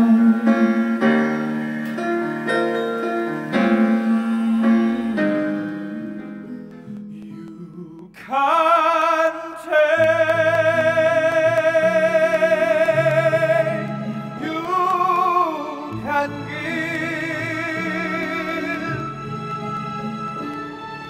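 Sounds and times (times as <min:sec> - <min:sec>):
man singing with vibrato: 0:00.0 - 0:19.5.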